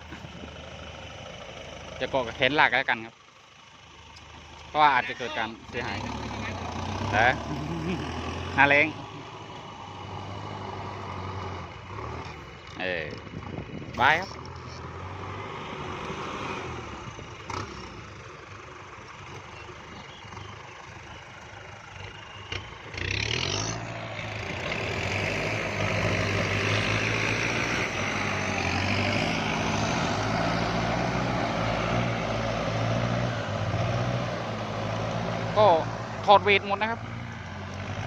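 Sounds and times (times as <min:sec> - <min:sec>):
tractor diesel engine revving: 0:00.0 - 0:38.0.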